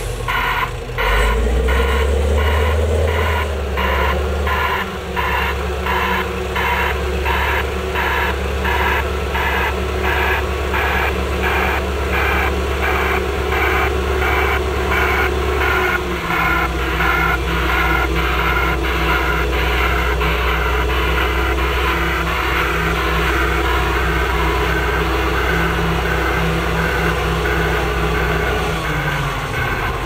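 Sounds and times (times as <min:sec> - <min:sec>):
heavy truck engine drone: 0:00.0 - 0:30.0
reverse alarm beeping: 0:00.3 - 0:30.0.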